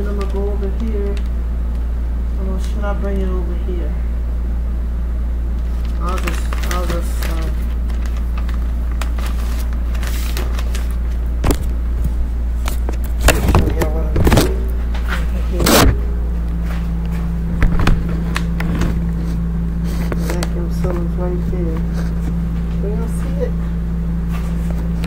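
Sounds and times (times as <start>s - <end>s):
higher steady hum: 0.0s - 25.0s
low electrical hum: 0.0s - 25.0s.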